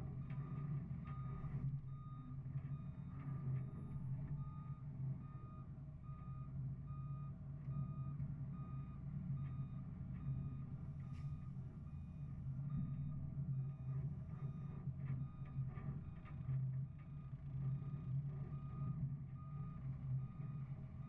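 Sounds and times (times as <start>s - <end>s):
truck reversing alarm beeping: 0.1s - 21.0s.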